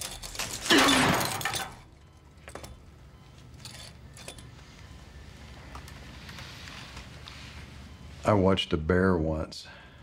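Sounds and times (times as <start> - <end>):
steady low hum: 1.8 - 10.0.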